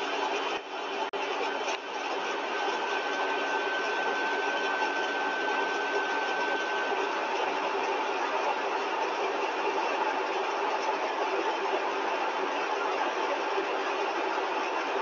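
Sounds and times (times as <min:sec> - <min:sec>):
compressor machine noise: 0:00.0 - 0:15.0.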